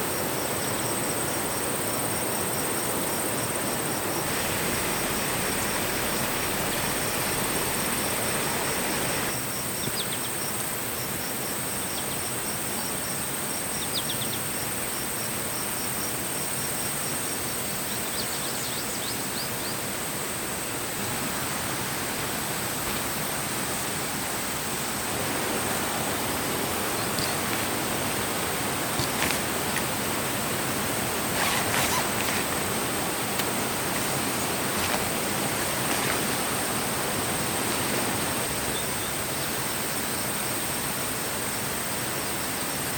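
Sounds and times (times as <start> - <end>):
rushing forest ambience: 0.0 - 42.9.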